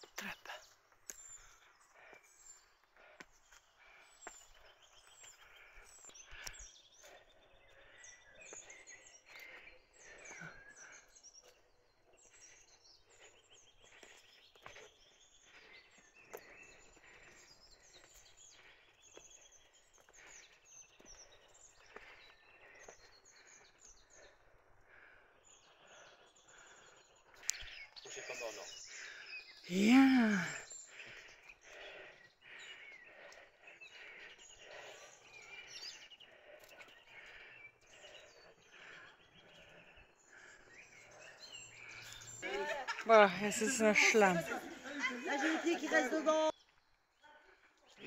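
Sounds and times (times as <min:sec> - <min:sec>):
birds chirping and trilling: 0:00.0 - 0:48.0.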